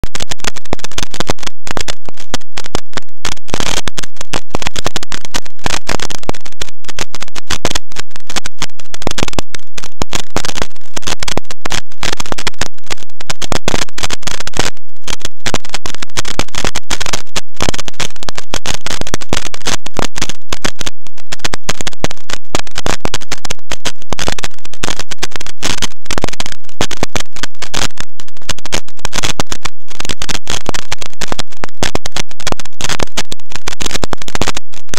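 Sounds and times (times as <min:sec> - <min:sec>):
clipped crackling static: 0:00.0 - 0:34.9.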